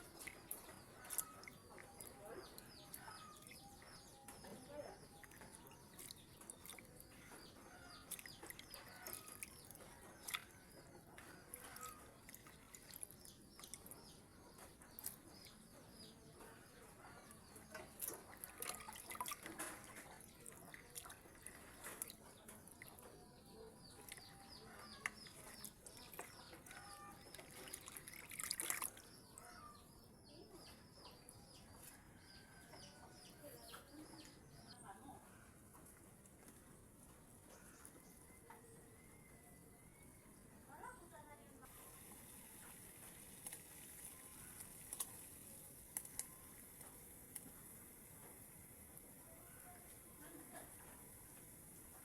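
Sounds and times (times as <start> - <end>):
faint bird chirps: 0.0 - 35.9, 37.3 - 52.0.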